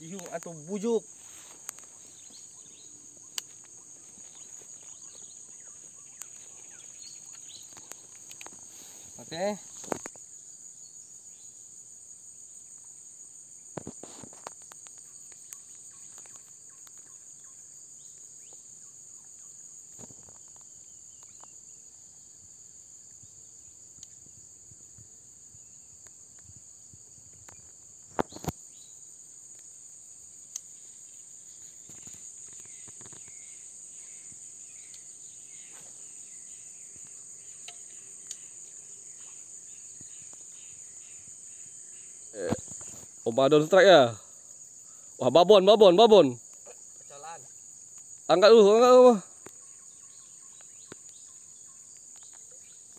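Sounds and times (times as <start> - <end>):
insects buzzing: 0.0 - 52.9.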